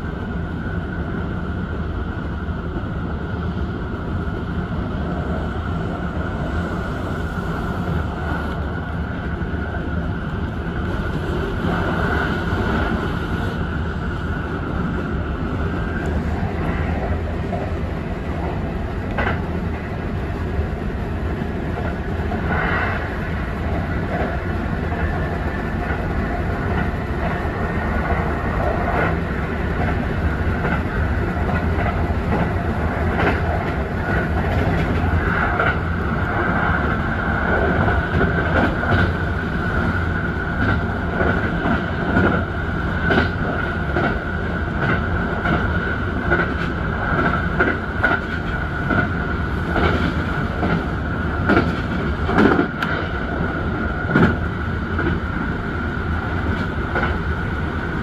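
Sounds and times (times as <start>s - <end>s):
train running gear rumble: 0.0s - 58.0s.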